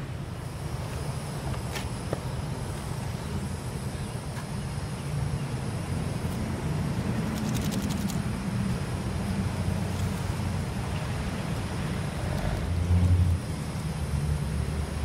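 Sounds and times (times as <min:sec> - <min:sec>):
low rumble of highway traffic: 0:00.0 - 0:15.0.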